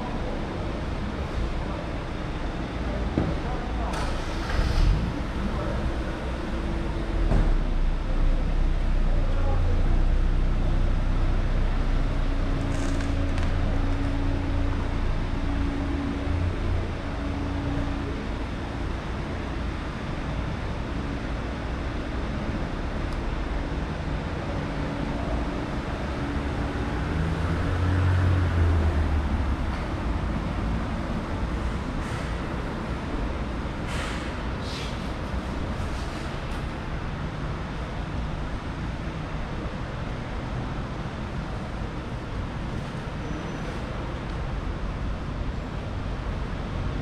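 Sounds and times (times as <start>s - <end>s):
car engines humming: 0.0s - 47.0s
traffic noise: 0.0s - 47.0s.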